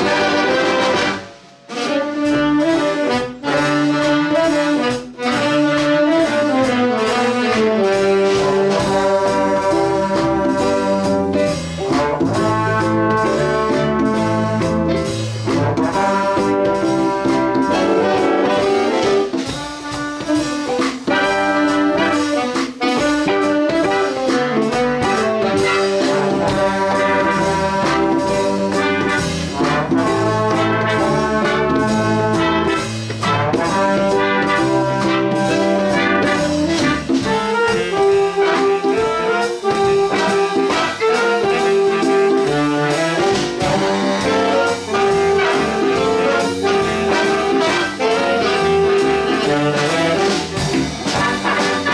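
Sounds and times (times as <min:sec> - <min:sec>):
big band playing: 0:00.0 - 0:51.9
steady drum beat: 0:00.0 - 0:51.9
trombones and trumpets: 0:00.0 - 0:51.9.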